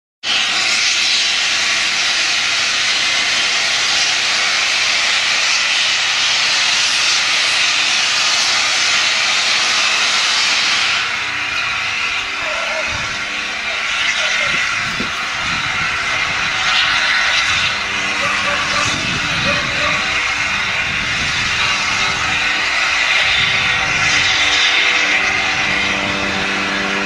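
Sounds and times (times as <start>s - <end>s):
steam locomotive hissing: 0.2s - 27.0s.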